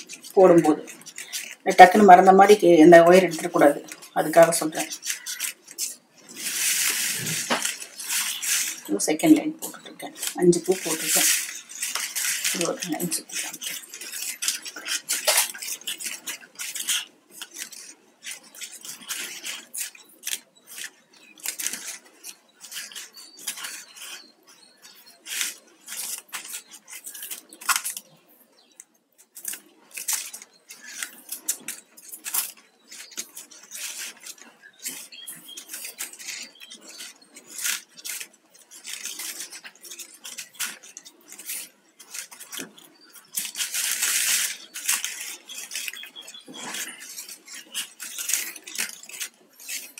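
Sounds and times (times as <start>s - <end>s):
plastic wires rustling and clicking: 0.0s - 49.9s.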